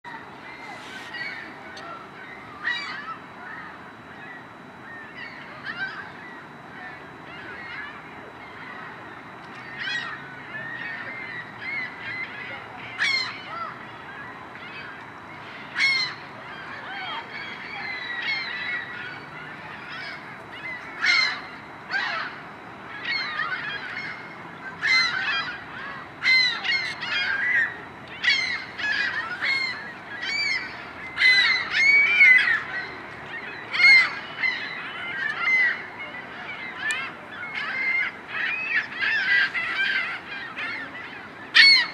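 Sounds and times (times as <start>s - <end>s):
waterbirds calling: 0.1s - 41.9s.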